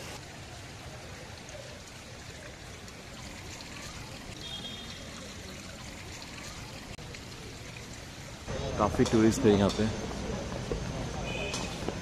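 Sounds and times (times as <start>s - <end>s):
rushing water-like ambience: 0.0s - 12.0s.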